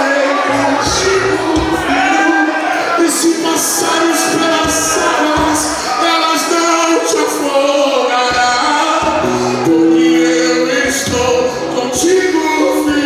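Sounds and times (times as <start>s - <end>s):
worship song singing: 0.0s - 13.0s.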